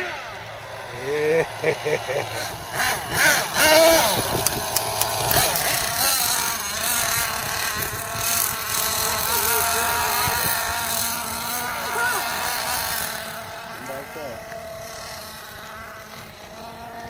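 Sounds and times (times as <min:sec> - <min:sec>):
model engine high buzz: 0:00.0 - 0:17.0.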